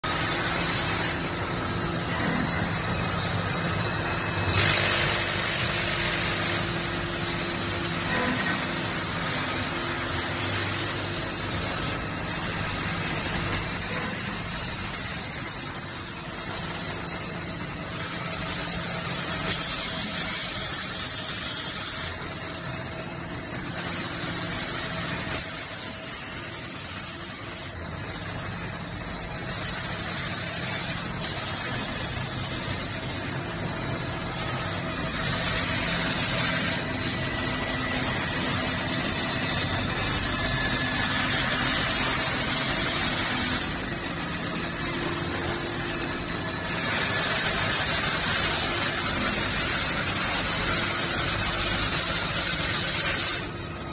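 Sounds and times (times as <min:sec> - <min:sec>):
machines running with mechanical drone: 0:00.0 - 0:53.9.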